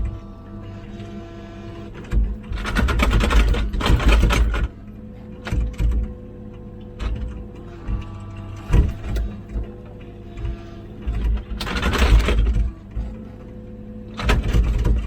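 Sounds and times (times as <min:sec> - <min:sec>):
mini excavator engine humming: 0:00.0 - 0:15.0.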